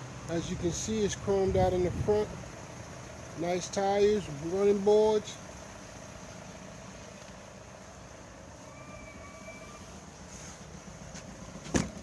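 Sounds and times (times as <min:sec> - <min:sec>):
vehicle rumble and hiss: 0:00.0 - 0:12.0.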